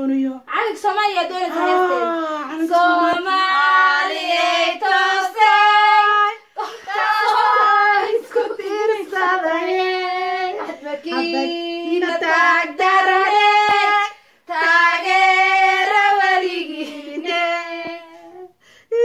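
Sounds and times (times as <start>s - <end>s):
child singing: 1.4s - 18.5s.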